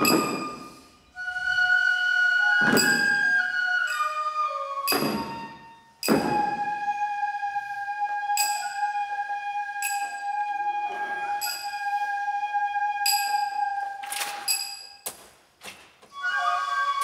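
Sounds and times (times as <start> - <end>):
bamboo flute long high note: 0.0 - 14.1, 16.1 - 17.0.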